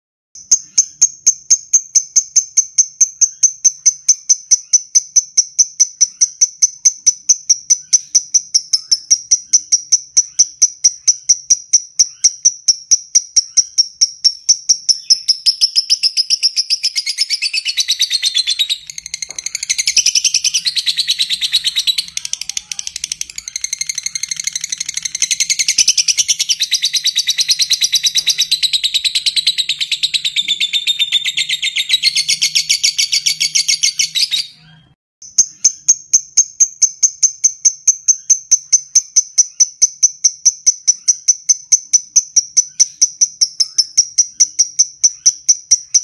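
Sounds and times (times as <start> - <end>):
lovebird chattering: 0.4 - 46.0.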